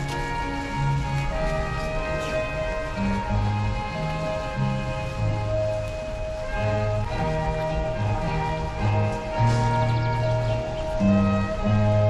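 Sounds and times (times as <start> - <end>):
sustained background music: 0.0 - 12.0.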